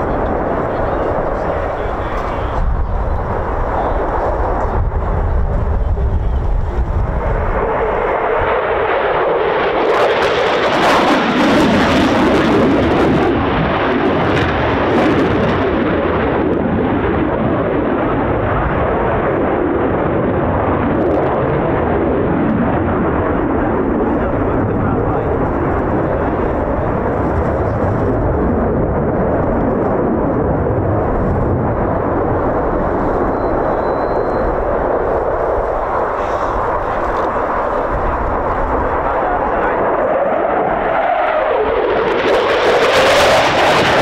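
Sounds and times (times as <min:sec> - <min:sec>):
jet engine roar: 0:00.0 - 0:44.0.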